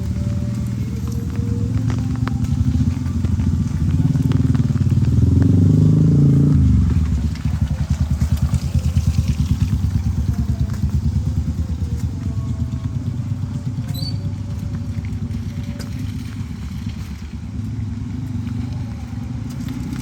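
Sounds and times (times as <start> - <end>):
engine pulsing: 0.0 - 20.0.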